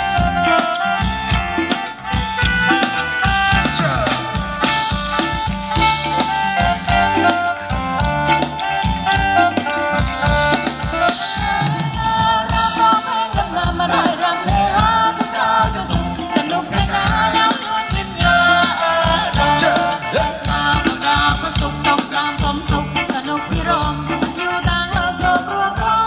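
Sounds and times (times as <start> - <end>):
steady drum beat: 0.0 - 26.0.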